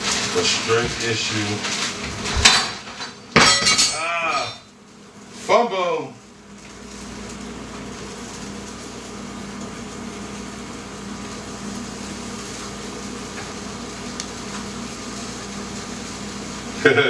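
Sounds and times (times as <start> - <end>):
appliance humming and hissing: 0.0 - 17.0.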